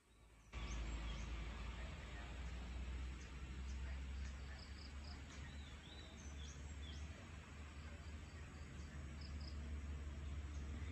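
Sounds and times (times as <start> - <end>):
faint birds chirping: 0.0 - 10.9
low outdoor rumble: 0.0 - 10.9.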